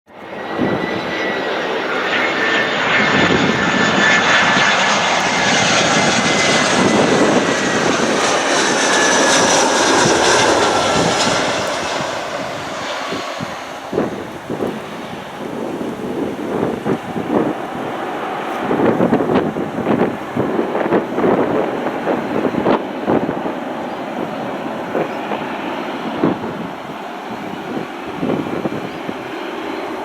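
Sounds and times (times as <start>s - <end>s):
jet engine roar with whine: 0.1s - 30.0s.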